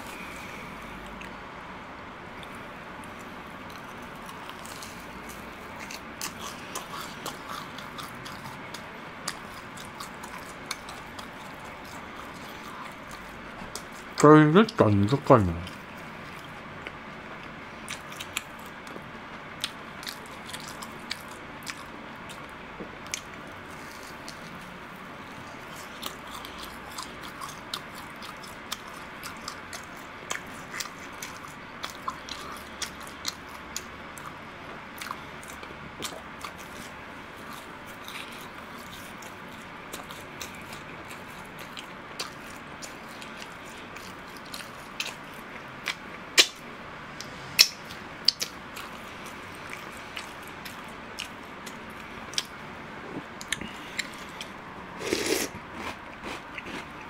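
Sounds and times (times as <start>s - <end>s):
close chewing with mouth clicks: 0.0s - 1.4s, 2.4s - 14.8s, 15.6s - 19.0s, 19.6s - 46.7s, 47.6s - 57.0s.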